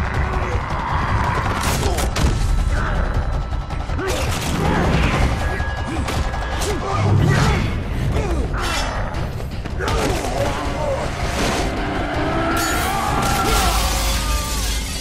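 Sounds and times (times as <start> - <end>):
dramatic music score: 0.0 - 15.0.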